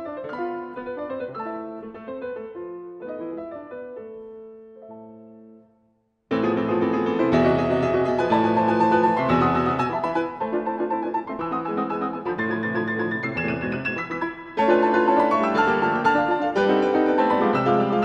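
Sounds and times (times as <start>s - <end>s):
solo grand piano: 0.0s - 18.0s.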